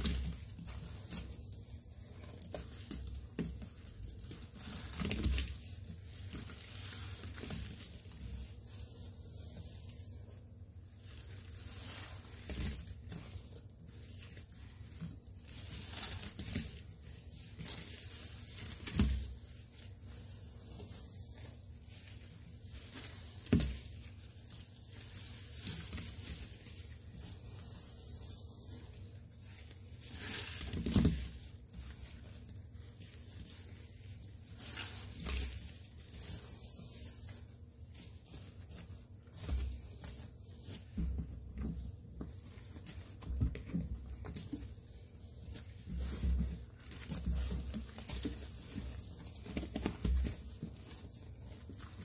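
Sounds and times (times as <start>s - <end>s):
wet sponges squishing: 0.0s - 52.0s.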